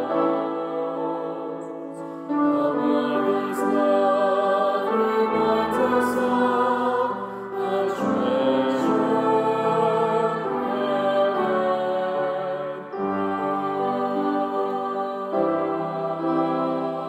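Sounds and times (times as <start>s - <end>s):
choir singing held chords: 0.0s - 17.0s.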